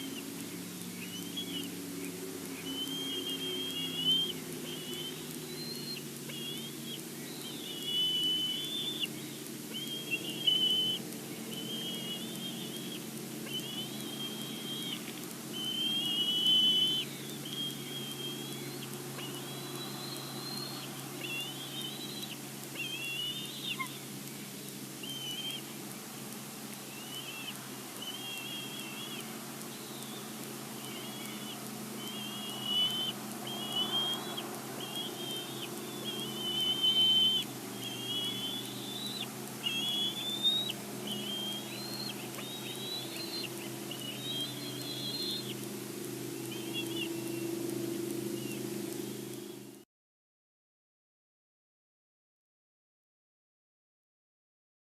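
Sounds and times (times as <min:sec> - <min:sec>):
eagle whistled calls: 0:00.0 - 0:25.8, 0:26.8 - 0:49.7
steady low hum: 0:00.0 - 0:49.8.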